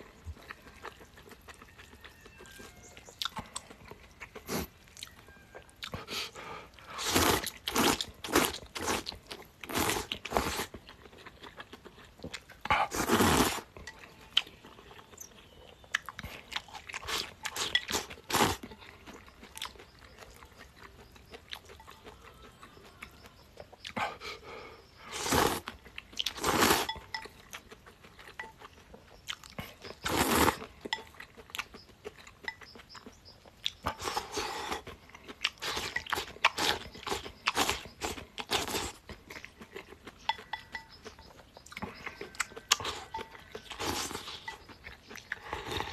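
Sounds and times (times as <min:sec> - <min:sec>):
person chewing and crunching: 0:00.0 - 0:45.9.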